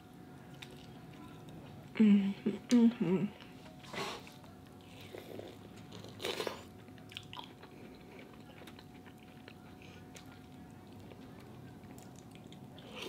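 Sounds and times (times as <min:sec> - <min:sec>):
quiet chewing: 0:00.4 - 0:01.7, 0:03.4 - 0:13.0.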